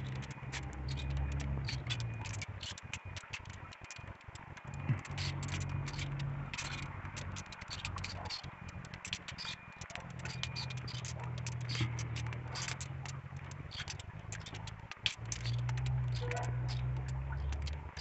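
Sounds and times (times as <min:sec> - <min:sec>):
rain dripping on leaves: 0:00.0 - 0:18.0.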